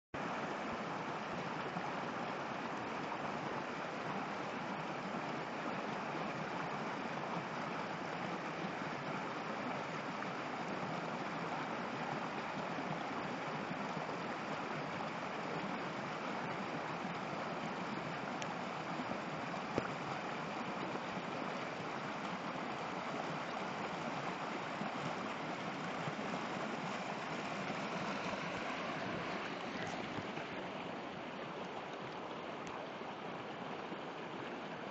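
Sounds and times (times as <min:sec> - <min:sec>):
river rushing over rocks: 0:00.2 - 0:34.9.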